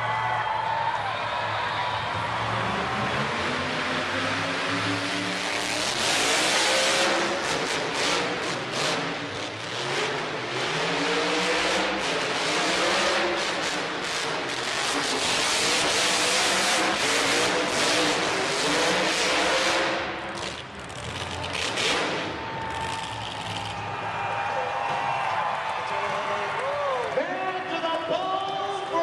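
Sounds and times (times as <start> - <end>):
monster truck engines revving: 0.9 - 29.0.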